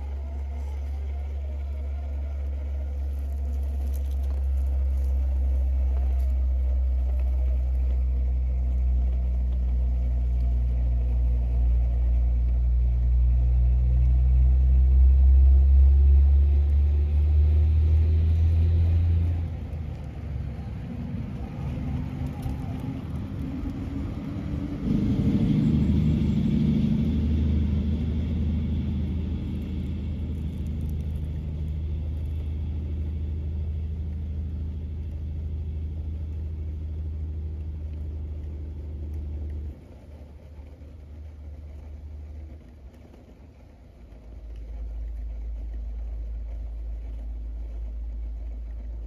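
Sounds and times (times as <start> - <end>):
electric motor humming with whine: 0.0 - 39.8.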